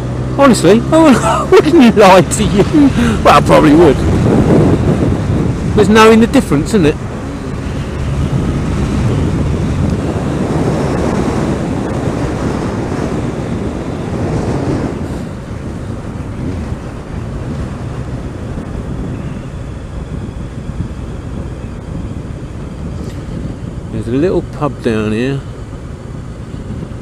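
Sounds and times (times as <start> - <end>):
motorcycle engine: 0.0 - 27.0
road noise: 0.0 - 27.0
wind buffeting microphone: 0.0 - 27.0.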